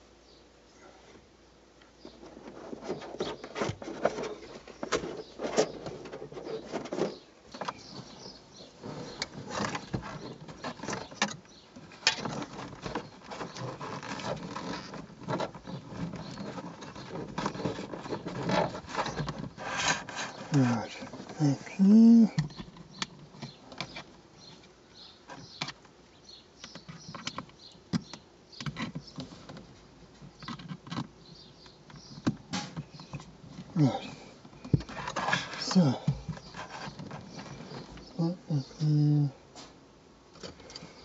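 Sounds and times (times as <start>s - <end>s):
rustling and scraping: 1.1s - 26.0s, 26.6s - 41.0s.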